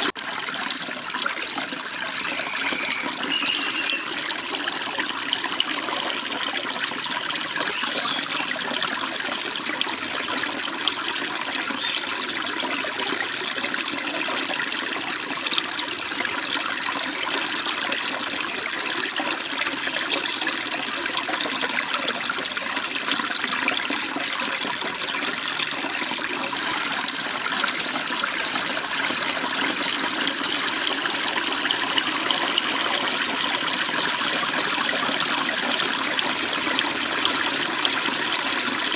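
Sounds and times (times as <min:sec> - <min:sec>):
stream water splashing over rocks: 0:00.0 - 0:38.9.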